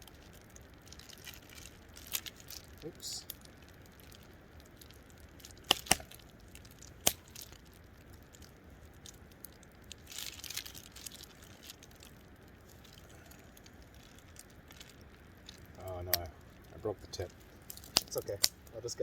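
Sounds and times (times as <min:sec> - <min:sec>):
crinkling rustle: 0:00.0 - 0:19.0
quiet handling: 0:00.0 - 0:19.0.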